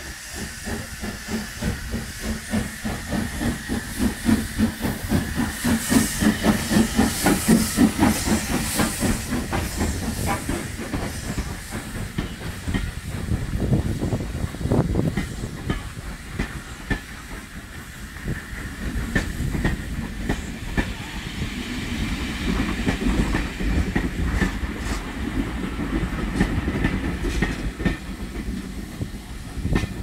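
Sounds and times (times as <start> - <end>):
train carriages rumbling: 0.0 - 30.0.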